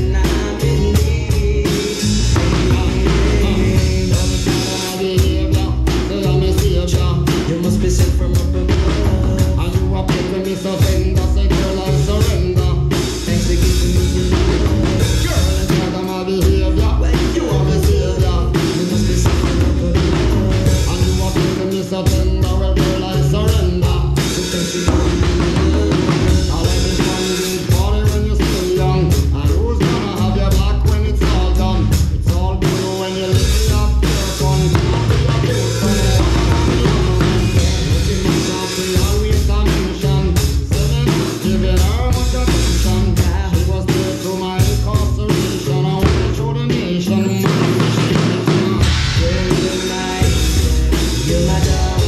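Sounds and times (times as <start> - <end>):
drum kit playing: 0.0 - 52.0
rock song with singing: 0.0 - 52.0.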